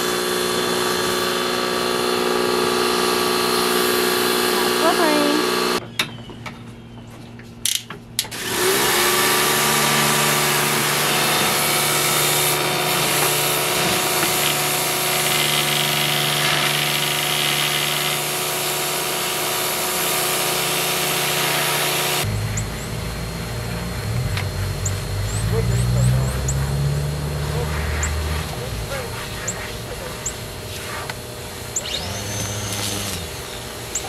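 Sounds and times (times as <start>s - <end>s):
pressure washer motor whining: 0.0s - 5.8s, 8.2s - 34.0s.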